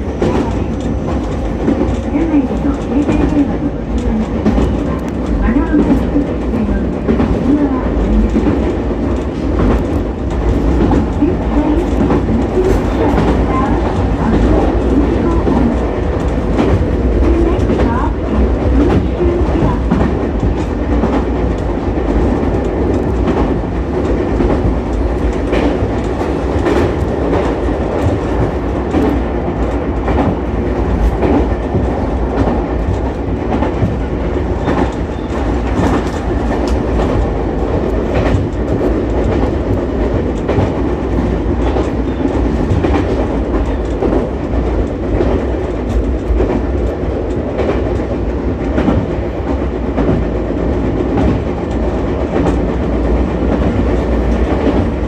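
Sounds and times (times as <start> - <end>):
train wheels rumbling on rail: 0.0 - 55.0
wheels clicking over rail joints: 0.0 - 55.0.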